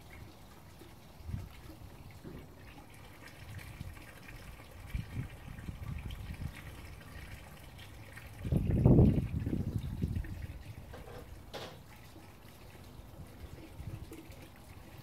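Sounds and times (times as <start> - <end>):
water spurting and splashing: 0.0 - 15.0.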